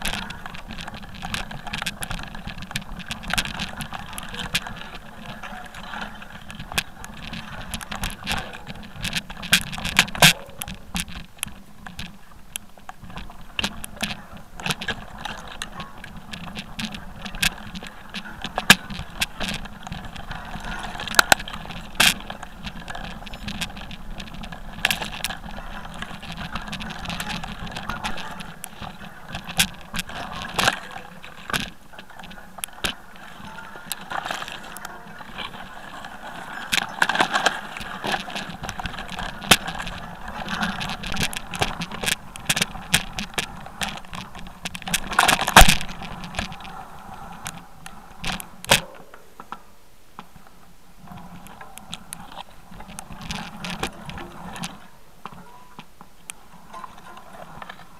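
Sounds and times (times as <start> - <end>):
camera clattering and rattling: 0.0 - 49.6, 51.0 - 57.9.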